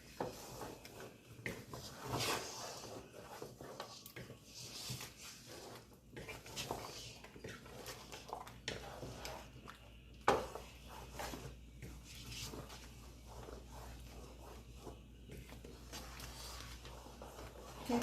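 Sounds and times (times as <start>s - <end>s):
spoon stirring thick soup in pot: 0.0s - 18.0s.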